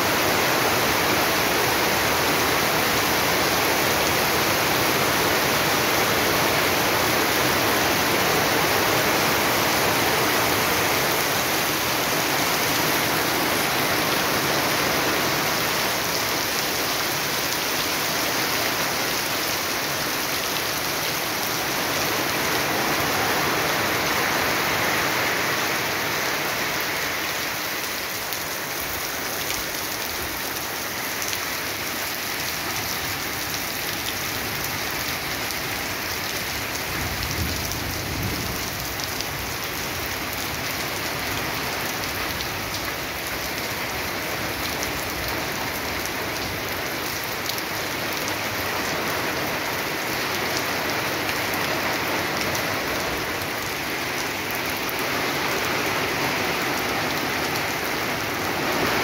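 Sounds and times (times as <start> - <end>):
heavy rain splashing into water: 0.0 - 59.0.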